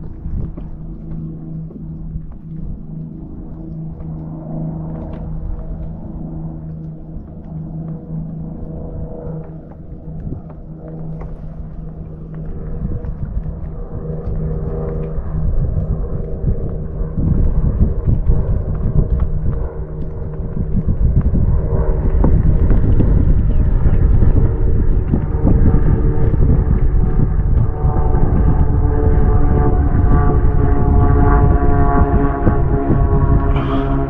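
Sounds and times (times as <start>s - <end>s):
propeller planes droning overhead: 0.0s - 34.0s.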